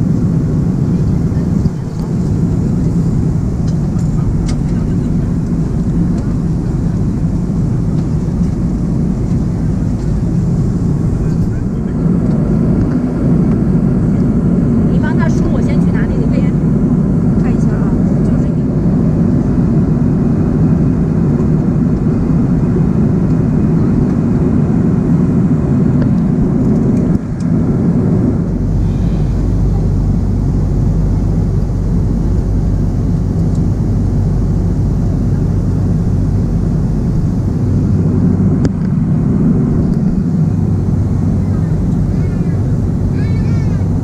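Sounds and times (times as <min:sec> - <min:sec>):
airliner cabin noise: 0:00.0 - 0:44.0
deep hum: 0:00.0 - 0:44.0.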